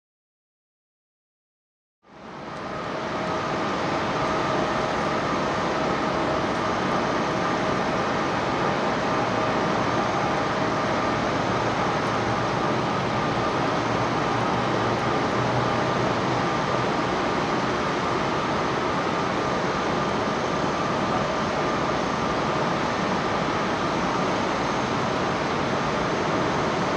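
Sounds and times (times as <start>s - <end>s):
jet engines running with whine: 2.1s - 26.9s.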